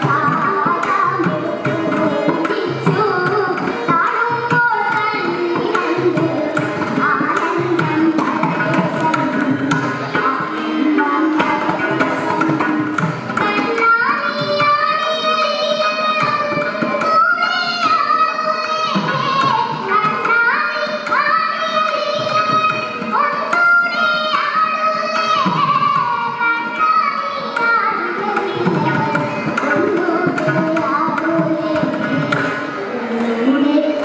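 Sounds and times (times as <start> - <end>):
children singing in chorus: 0.0 - 34.0
violin: 0.0 - 34.0.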